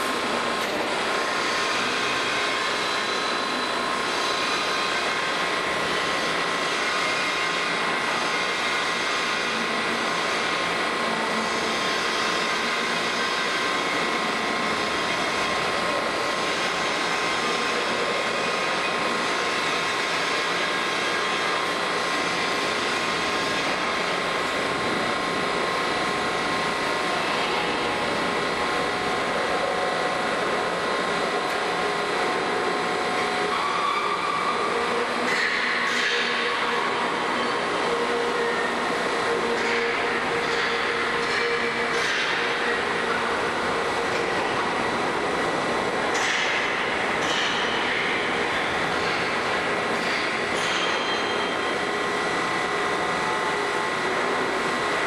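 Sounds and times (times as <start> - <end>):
mechanical drone of rolling machine: 0.0 - 55.0.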